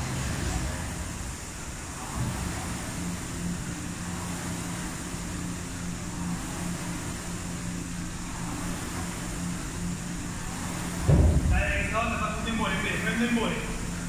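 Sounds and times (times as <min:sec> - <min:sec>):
rowing machine fan whirring: 0:00.0 - 0:14.0
steady low hum: 0:00.0 - 0:14.0.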